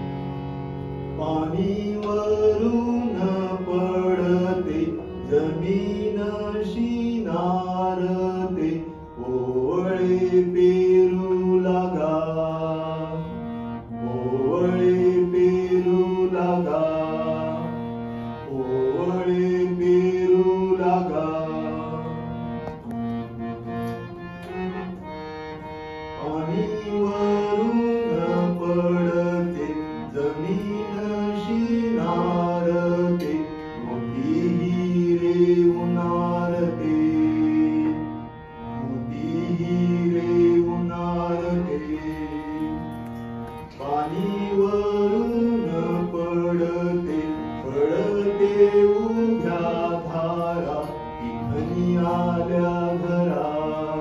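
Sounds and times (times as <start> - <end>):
harmonium: 0.0 - 54.0
man singing devotional song: 1.0 - 23.0, 23.8 - 54.0.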